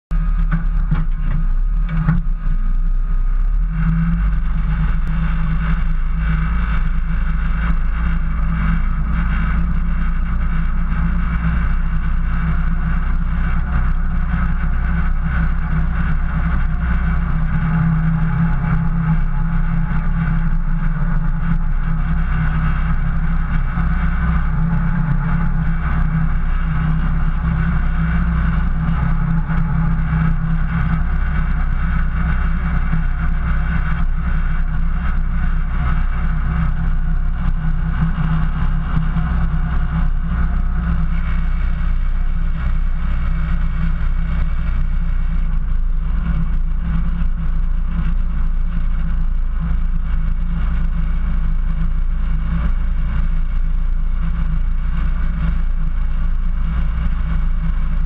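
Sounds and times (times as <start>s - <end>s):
off-road vehicle engine droning: 0.0s - 58.0s.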